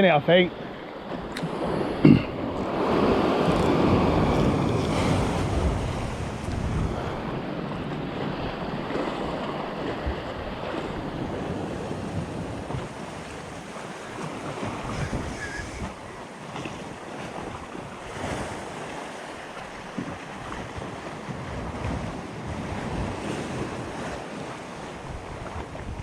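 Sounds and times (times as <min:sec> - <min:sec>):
sea waves washing against rocks: 0:00.0 - 0:26.0
wind buffeting microphone: 0:00.6 - 0:26.0.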